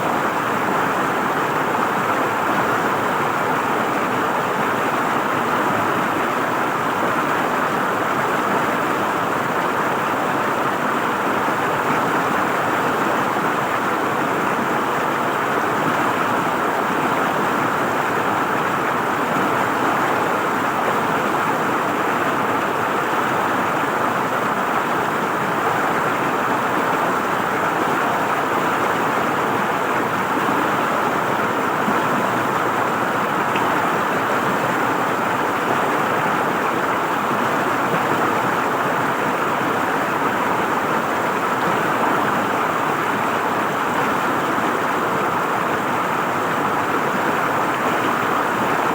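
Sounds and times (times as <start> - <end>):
river water flowing and gurgling: 0.0 - 48.9.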